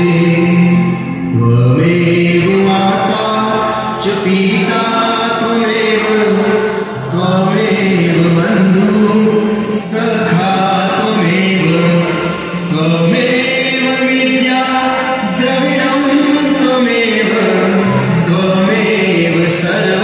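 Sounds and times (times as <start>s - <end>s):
devotional chant singing: 0.0s - 20.0s.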